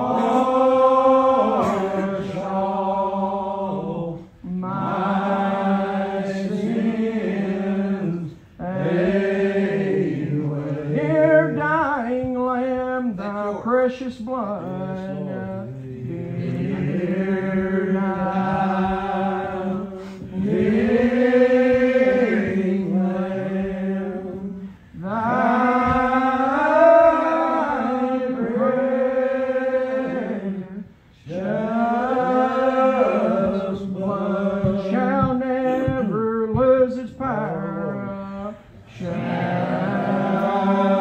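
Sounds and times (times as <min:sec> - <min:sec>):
congregation singing a hymn: 0:00.0 - 0:41.0.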